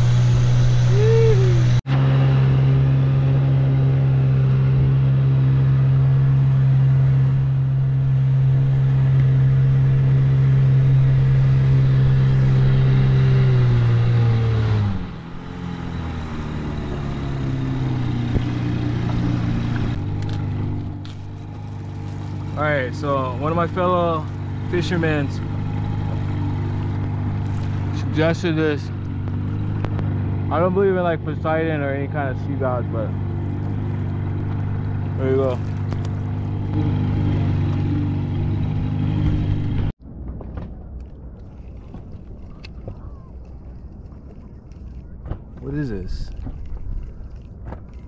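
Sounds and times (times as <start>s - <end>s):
outboard motor running: 0.0s - 39.9s, 41.0s - 48.0s.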